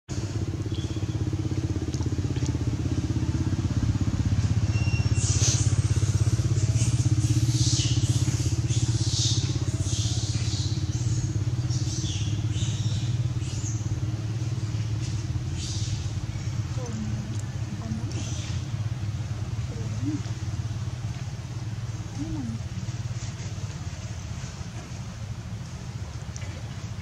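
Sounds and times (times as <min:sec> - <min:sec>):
motor engine humming: 0:00.1 - 0:27.0.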